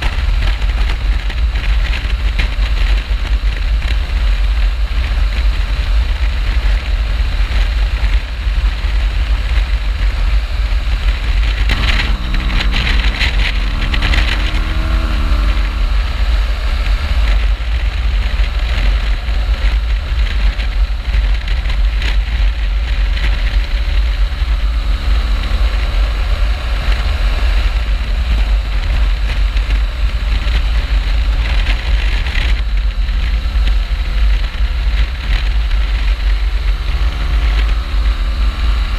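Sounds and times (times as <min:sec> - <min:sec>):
motorcycle engine accelerating: 0:00.0 - 0:38.9
wind buffeting microphone: 0:00.0 - 0:38.9.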